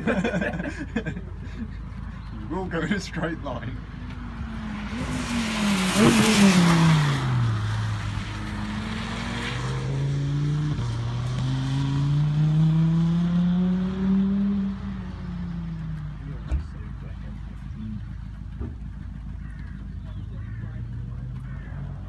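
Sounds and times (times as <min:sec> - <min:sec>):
sports car engine passing: 0:00.0 - 0:22.0.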